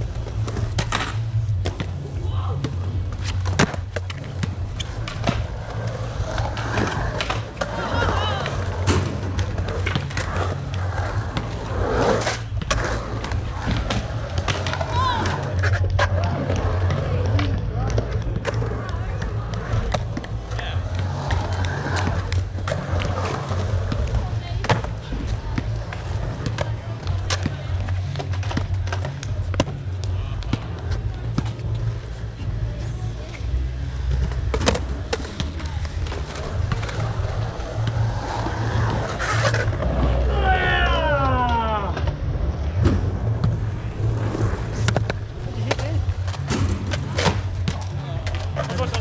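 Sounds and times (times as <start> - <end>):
skateboard wheels rolling on concrete: 0.0 - 49.0.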